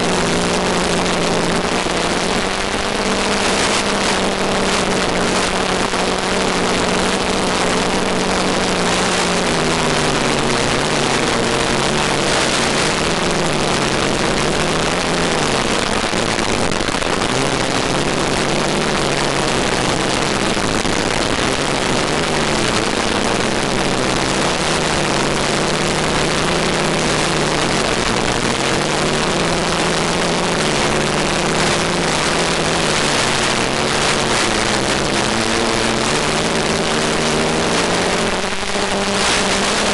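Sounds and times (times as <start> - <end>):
drone motors and propellers droning: 0.0 - 39.9.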